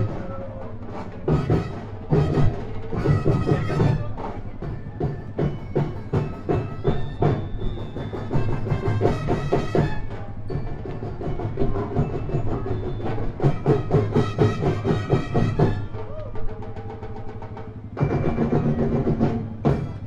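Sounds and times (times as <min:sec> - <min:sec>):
percussion-heavy music: 0:00.0 - 0:20.0.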